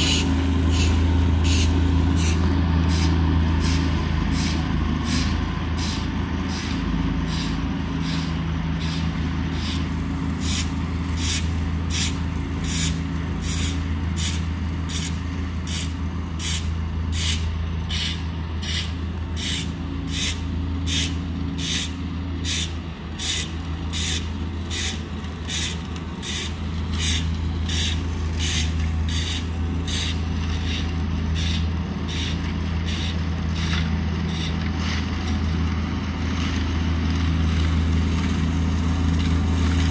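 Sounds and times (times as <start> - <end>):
diesel mower engine running: 0.0 - 39.9.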